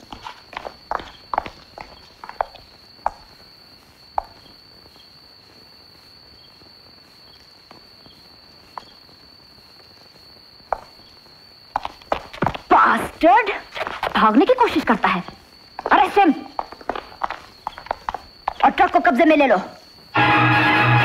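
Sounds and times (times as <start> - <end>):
footsteps: 0.0 - 20.1
night insects droning: 0.0 - 21.0.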